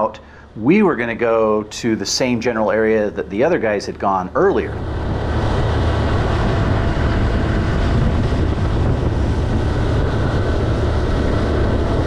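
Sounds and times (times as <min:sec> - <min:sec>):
boat motor droning: 0:00.0 - 0:12.0
rushing water noise: 0:01.6 - 0:12.0.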